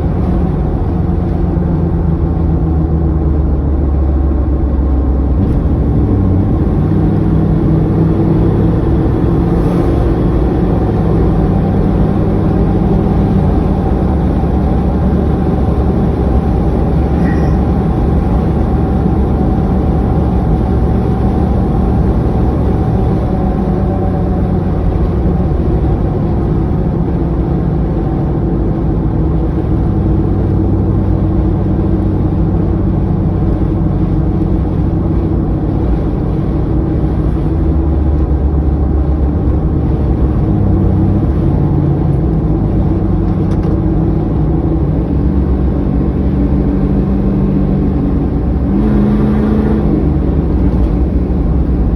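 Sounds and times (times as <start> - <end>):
engine running loudly: 0.0 - 51.9.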